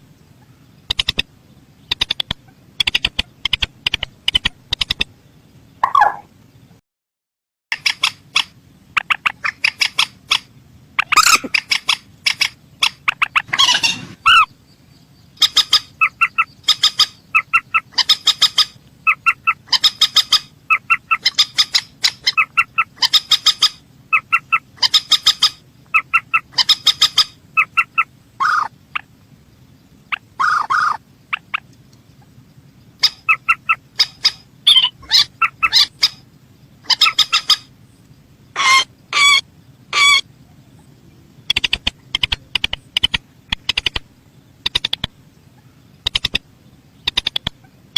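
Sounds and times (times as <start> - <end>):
rail bird calling: 0.0 - 6.3, 7.7 - 47.9.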